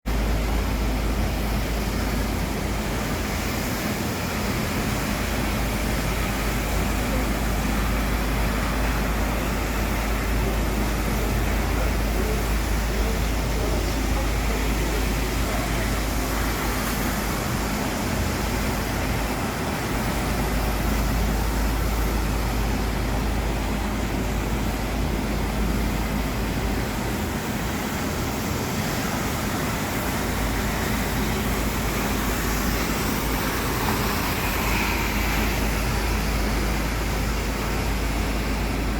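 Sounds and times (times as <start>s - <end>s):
floor-cleaning machine running: 0.1s - 38.9s.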